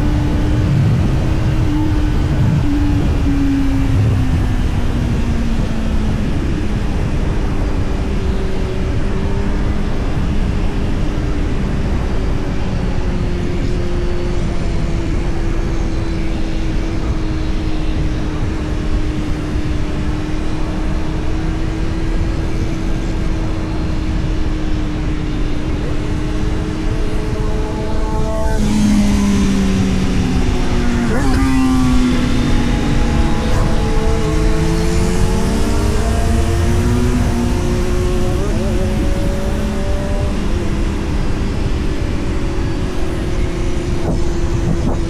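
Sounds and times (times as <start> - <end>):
motorcycle engine cruising: 0.0 - 45.0
wind noise on microphone: 0.0 - 45.0.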